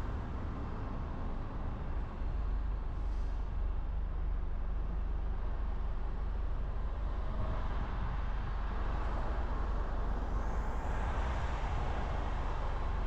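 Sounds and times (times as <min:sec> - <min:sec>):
traffic rumble: 0:00.0 - 0:13.0
truck engine and tyre noise: 0:00.0 - 0:13.0.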